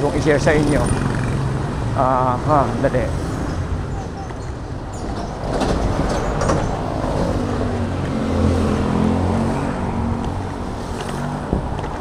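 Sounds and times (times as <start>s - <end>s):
motorcycle engines: 0.0s - 12.0s
road noise: 0.0s - 12.0s.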